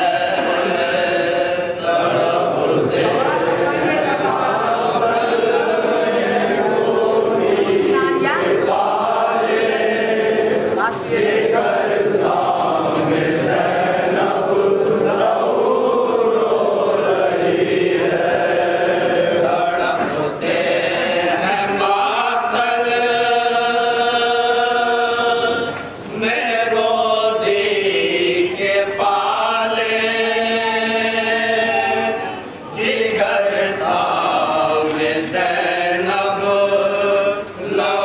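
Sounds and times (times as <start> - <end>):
men chanting a lament: 0.0 - 38.0.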